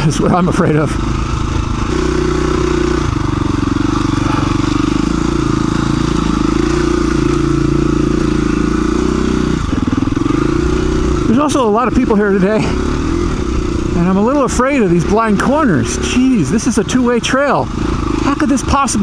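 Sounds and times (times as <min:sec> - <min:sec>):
motorcycle engine at low revs: 0:00.0 - 0:19.0.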